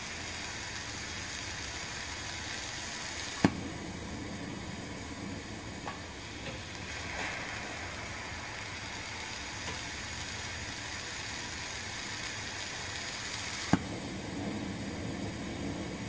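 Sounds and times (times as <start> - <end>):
torch hissing: 0.0 - 16.0.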